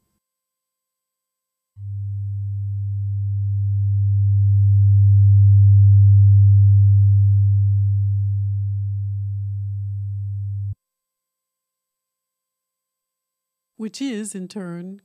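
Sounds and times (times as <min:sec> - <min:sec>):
low sine-wave tone: 0:00.2 - 0:13.7.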